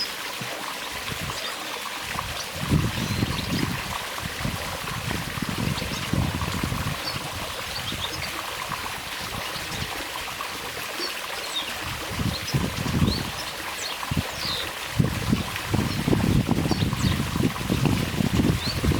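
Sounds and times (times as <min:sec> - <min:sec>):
trickling water: 0:00.0 - 0:18.9.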